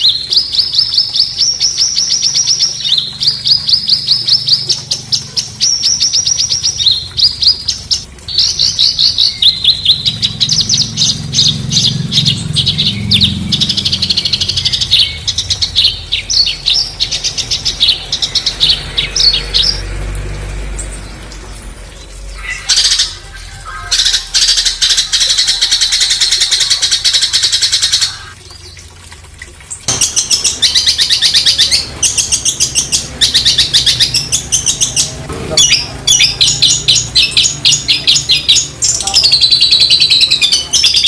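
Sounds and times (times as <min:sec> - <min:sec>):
songbird chirping and trilling: 0:00.0 - 0:28.9, 0:29.8 - 0:41.0.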